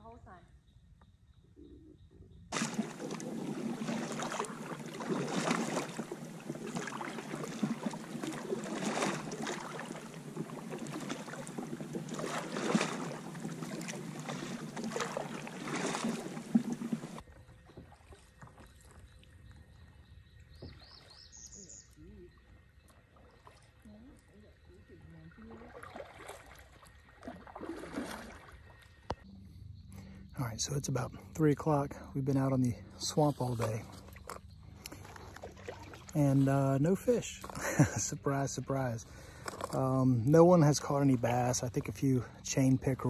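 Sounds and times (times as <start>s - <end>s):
paddle strokes splashing: 2.5s - 19.8s, 22.6s - 29.2s, 32.3s - 43.0s
water rushing along hull: 2.5s - 29.2s, 30.1s - 43.0s.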